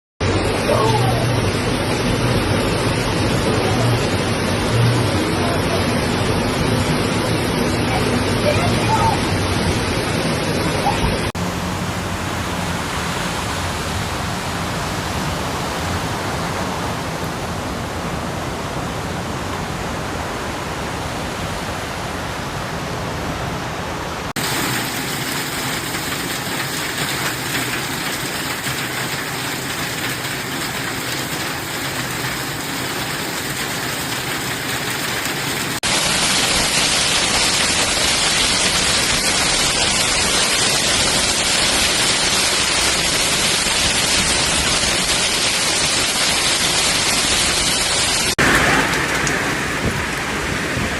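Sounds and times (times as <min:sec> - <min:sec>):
heavy rain: 0:00.2 - 0:50.9
rushing floodwater: 0:00.2 - 0:50.9.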